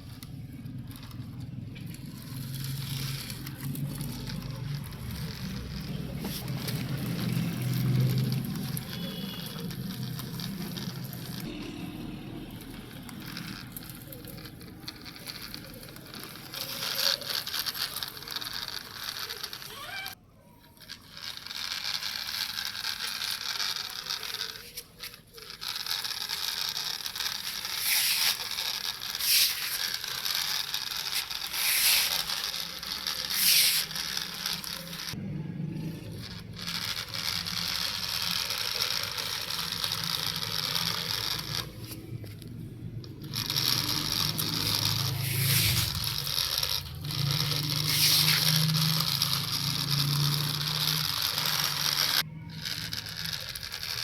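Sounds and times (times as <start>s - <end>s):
gravel crunching under toy vehicle: 0.0s - 54.0s.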